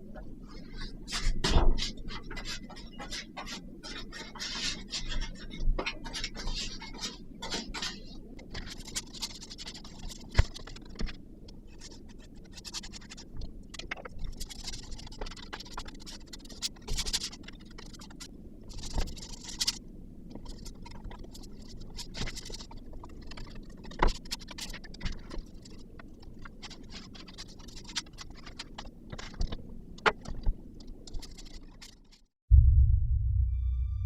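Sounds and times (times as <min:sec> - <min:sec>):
scratching and scraping: 0:00.2 - 0:32.3.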